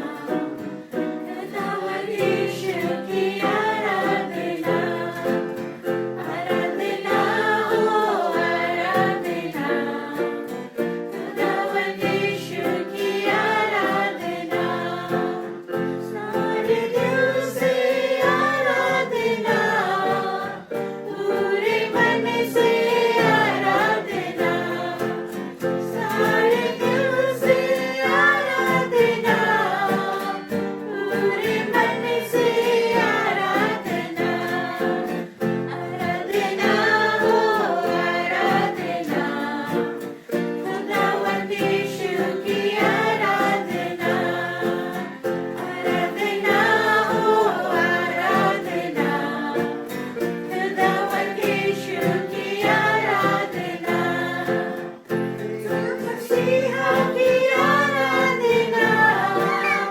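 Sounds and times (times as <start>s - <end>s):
instrumental accompaniment: 0.0s - 59.9s
voices singing worship song: 0.0s - 59.9s.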